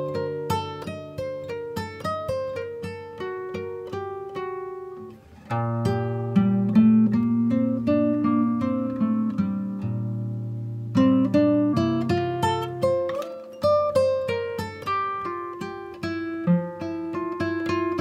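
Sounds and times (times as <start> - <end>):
guitar music: 0.0 - 18.0.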